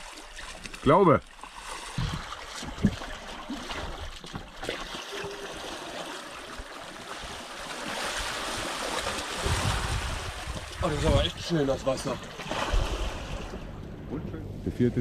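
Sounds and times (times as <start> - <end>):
sea water rushing and splashing: 0.0 - 13.8.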